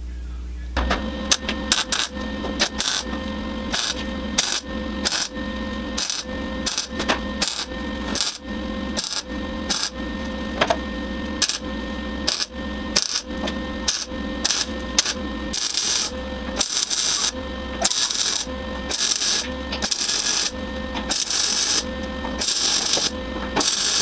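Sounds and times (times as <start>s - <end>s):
steady hum: 0.0s - 24.0s
welding arc crackling: 0.8s - 24.0s.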